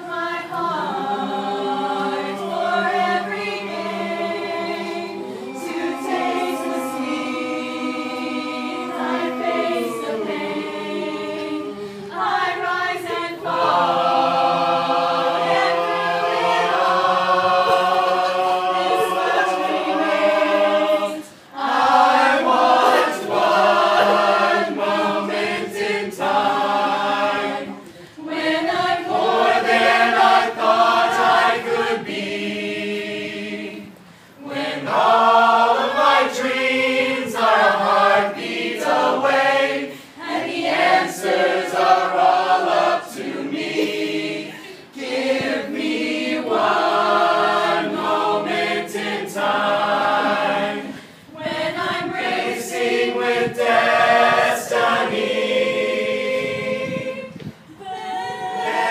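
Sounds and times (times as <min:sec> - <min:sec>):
mixed choir singing a cappella: 0:00.0 - 0:58.9.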